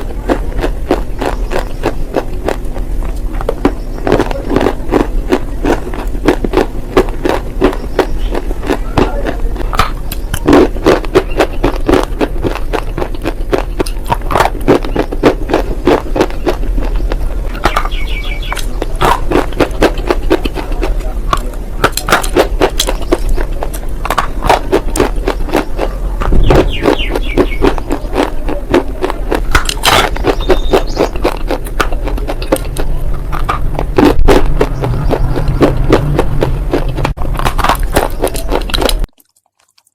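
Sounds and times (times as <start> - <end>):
chewing crunchy clay: 0.0 - 39.9.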